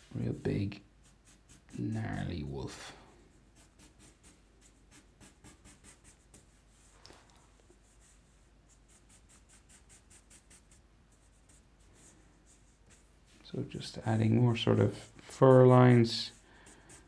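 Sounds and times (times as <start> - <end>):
marker scratching on paper: 0.0 - 2.3, 3.3 - 6.9, 7.6 - 13.4, 14.5 - 17.0.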